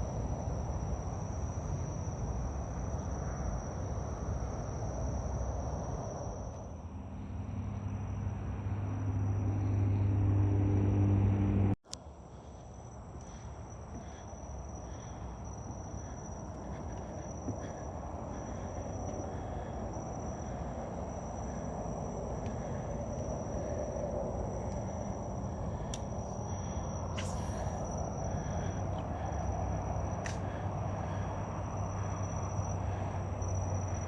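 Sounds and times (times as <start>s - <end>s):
insects droning: 0.0s - 34.0s
low hum: 0.0s - 34.0s.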